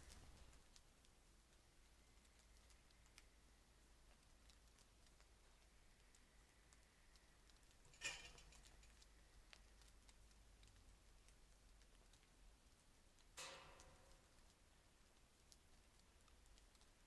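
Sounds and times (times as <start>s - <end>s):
faint ticks: 0.0s - 17.0s.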